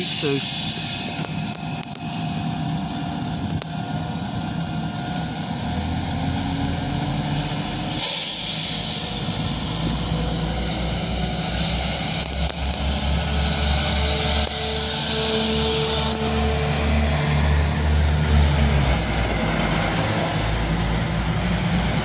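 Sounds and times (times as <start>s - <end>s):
diesel train engines accelerating: 0.0s - 22.0s
train low rumble: 0.0s - 22.0s.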